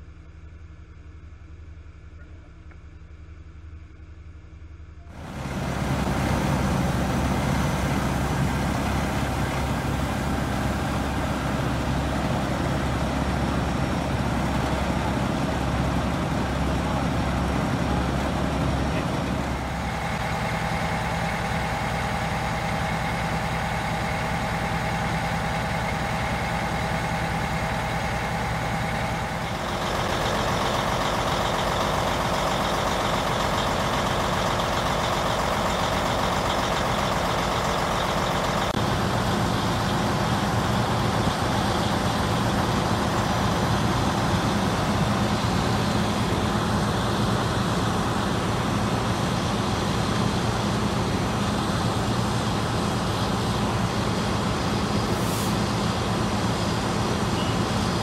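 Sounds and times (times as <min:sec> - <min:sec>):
diesel fire truck engines running: 0:00.0 - 0:58.0.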